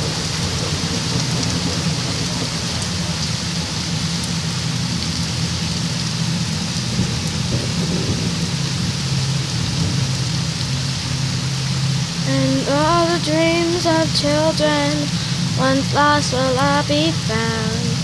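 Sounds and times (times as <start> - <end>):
low steady hum: 0.0 - 18.0
rain pouring: 0.0 - 18.0.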